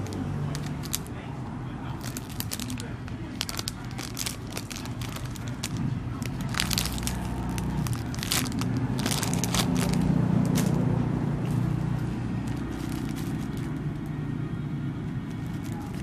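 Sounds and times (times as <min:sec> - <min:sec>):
plastic packaging crinkling: 0:00.0 - 0:01.1, 0:02.0 - 0:10.8, 0:11.4 - 0:14.2, 0:15.1 - 0:16.0.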